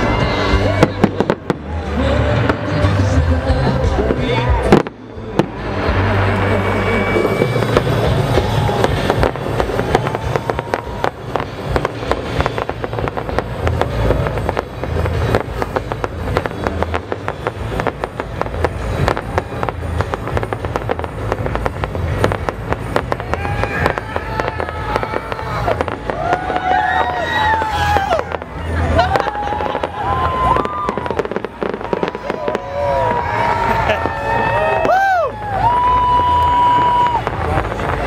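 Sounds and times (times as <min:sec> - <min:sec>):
fireworks bangs and crackle: 0:00.0 - 0:38.0
music playing: 0:00.0 - 0:38.0.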